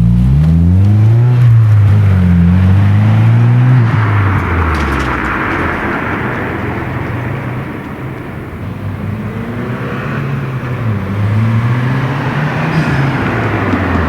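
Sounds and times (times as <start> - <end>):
car exhaust note: 0.0 - 14.0.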